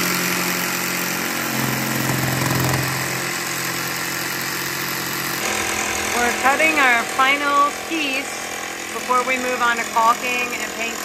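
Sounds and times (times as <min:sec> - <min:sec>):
jigsaw cutting wood: 0:00.0 - 0:11.0.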